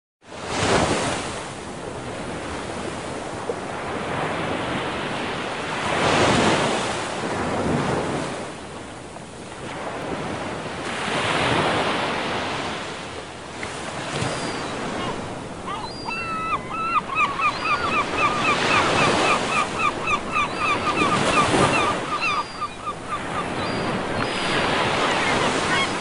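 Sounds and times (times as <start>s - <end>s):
ocean surf breaking on beach: 0.3s - 16.4s, 17.0s - 26.0s.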